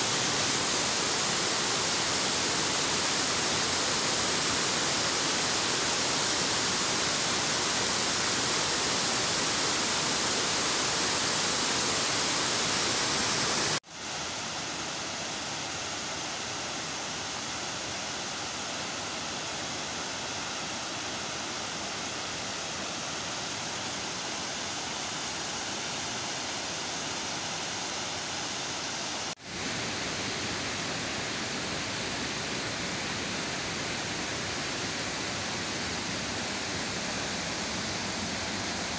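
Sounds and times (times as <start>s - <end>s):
river water pouring over weir: 0.0s - 38.9s.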